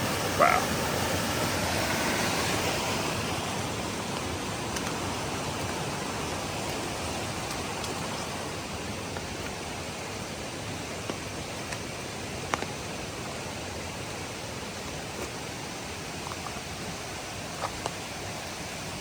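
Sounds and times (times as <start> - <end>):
creek rushing in flood: 0.0 - 19.0.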